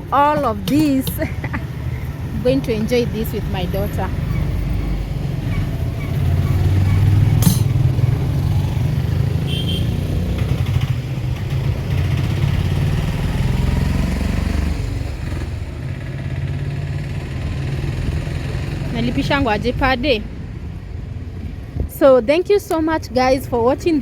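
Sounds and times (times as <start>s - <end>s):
motorcycle engine close by: 0.0s - 21.9s
street traffic: 0.0s - 24.0s.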